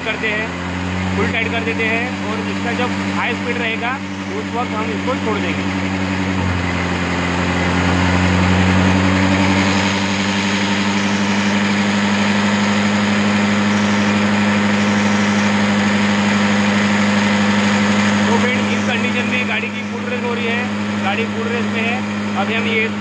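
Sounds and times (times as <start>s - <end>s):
scooter engine idling: 0.0s - 23.0s.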